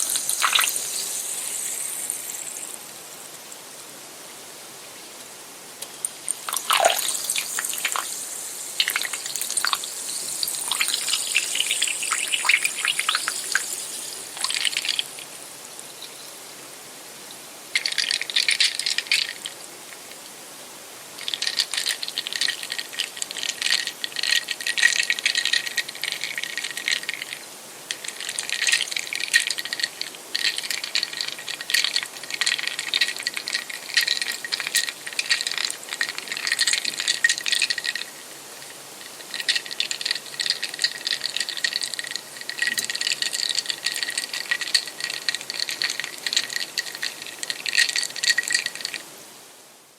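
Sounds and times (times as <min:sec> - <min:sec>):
soda fizzing and crackling: 0:00.0 - 0:03.8, 0:05.7 - 0:16.5, 0:17.4 - 0:49.2.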